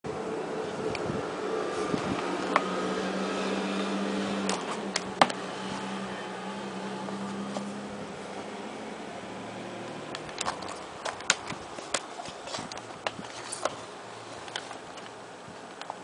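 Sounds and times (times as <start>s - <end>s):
low hum: 0.1s - 15.6s.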